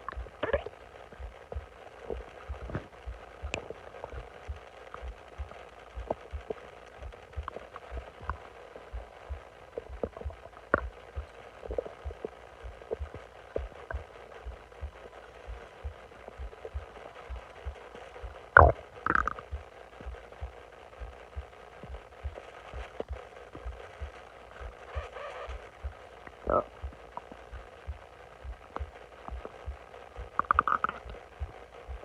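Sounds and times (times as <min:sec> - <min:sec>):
stomach gurgling and popping: 0:00.0 - 0:32.0
stomach squelches: 0:00.0 - 0:32.0.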